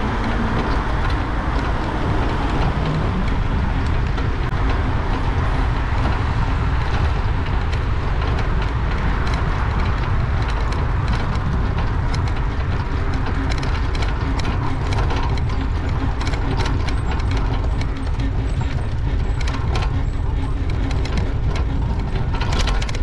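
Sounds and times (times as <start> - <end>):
bicycle rattling clicks: 0.0 - 23.0
tyres rolling on pavement: 0.0 - 23.0
wind on microphone: 0.0 - 23.0.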